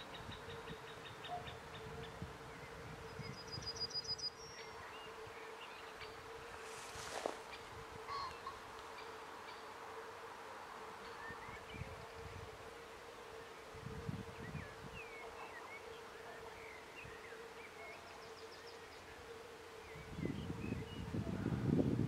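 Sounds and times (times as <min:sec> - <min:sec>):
steady insect hum: 0:00.0 - 0:22.0.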